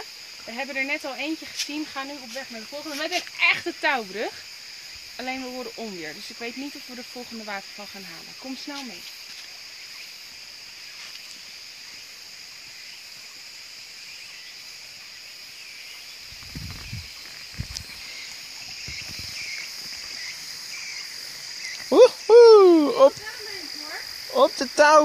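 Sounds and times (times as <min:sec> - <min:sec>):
insect chorus chirring: 0:00.0 - 0:25.0.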